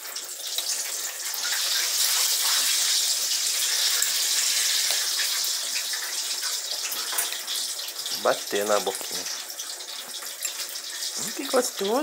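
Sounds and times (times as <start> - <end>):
running water from a tap: 0.0 - 12.0.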